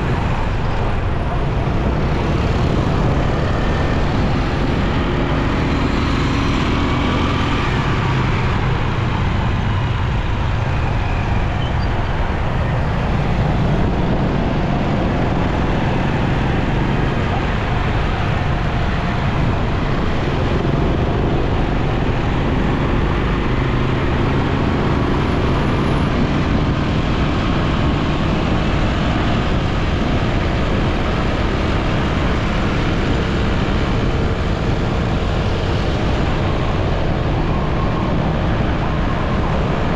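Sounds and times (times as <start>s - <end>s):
surrounding traffic: 0.0s - 39.9s
wind and road noise: 0.0s - 39.9s.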